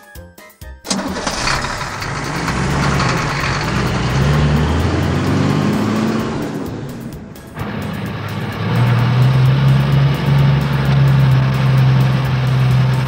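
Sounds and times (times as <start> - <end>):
truck engine pulling away: 0.9 - 13.0.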